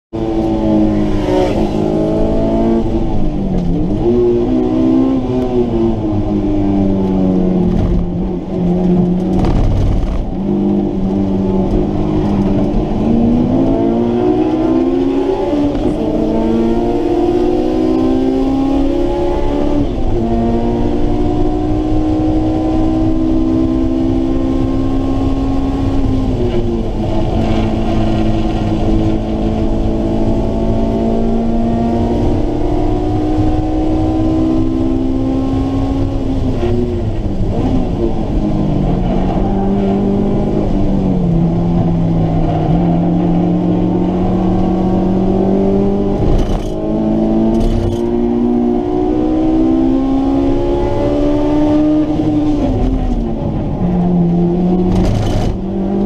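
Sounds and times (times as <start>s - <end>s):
car engine revving through gears: 0.1s - 56.0s.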